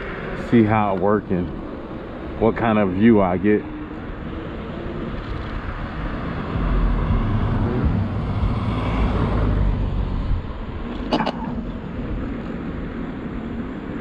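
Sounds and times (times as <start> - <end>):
vehicle passing with low rumble: 0.0 - 14.0.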